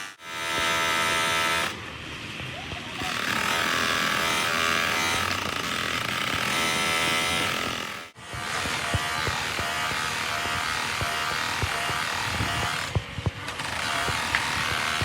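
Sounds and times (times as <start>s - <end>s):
machinery whining: 2.9s - 15.0s
steady machine sound: 3.0s - 15.0s.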